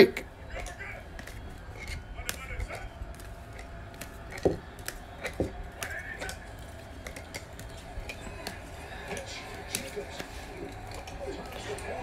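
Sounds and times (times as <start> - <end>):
plastic card holders clicking: 0.5 - 11.9.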